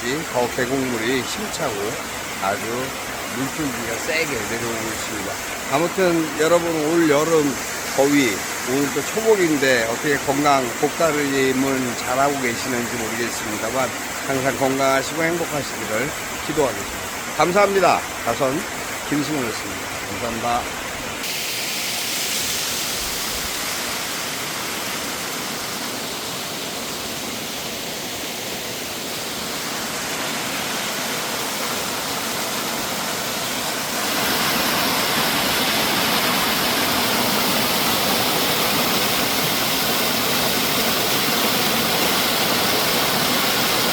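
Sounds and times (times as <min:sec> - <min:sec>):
stream and waterfall rushing: 0:00.0 - 0:43.9.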